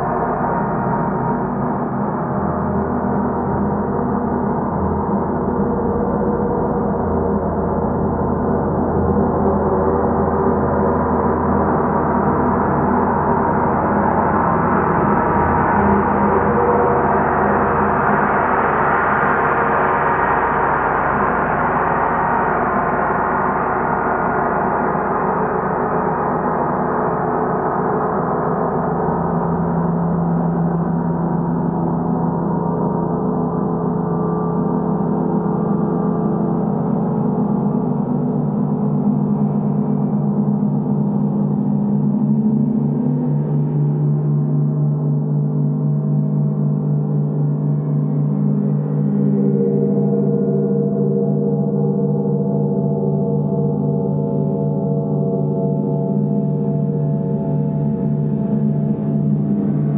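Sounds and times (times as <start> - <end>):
gongs played with soft mallets: 0.0 - 59.9.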